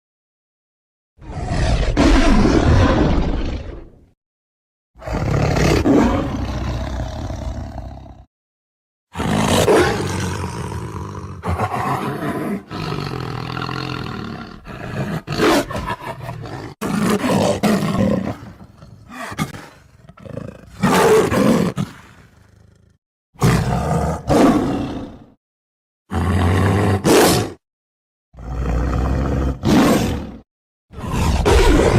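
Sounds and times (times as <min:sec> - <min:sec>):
lion roaring and growling: 0:01.2 - 0:04.1, 0:05.0 - 0:08.3, 0:09.1 - 0:25.4, 0:26.1 - 0:27.6, 0:28.4 - 0:31.9.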